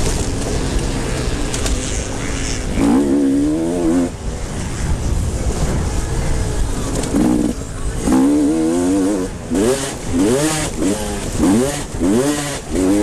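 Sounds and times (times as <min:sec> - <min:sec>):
motorcycle engines revving: 0:00.0 - 0:13.0
motorcycle passing: 0:00.0 - 0:13.0.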